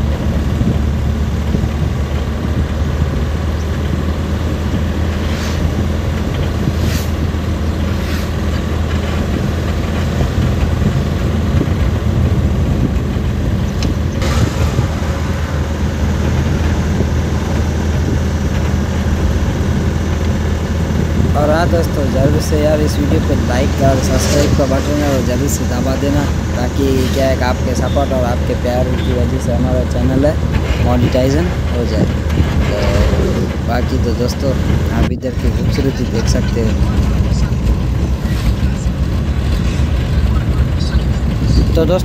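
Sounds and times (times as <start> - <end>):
truck engine and road drone: 0.0 - 42.0.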